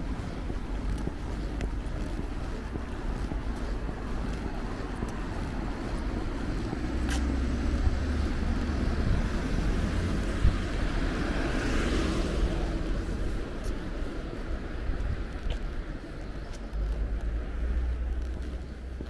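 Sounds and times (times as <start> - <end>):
car passing: 0.0 - 19.0
wind rumbling on microphone: 0.0 - 19.0.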